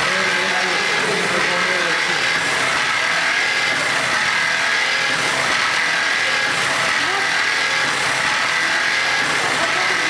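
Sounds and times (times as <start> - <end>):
slicing machine running: 0.0 - 10.0.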